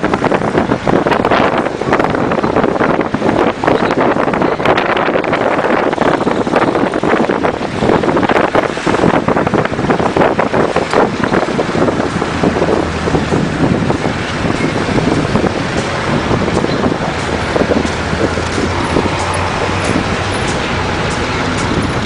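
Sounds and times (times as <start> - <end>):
moving vehicle running noise: 0.0 - 22.0
wind buffeting microphone: 0.0 - 22.0.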